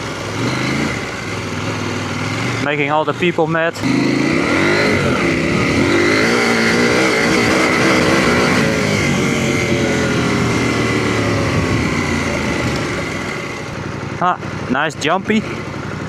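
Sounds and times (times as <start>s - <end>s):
motorcycle engine under load: 0.0s - 16.0s.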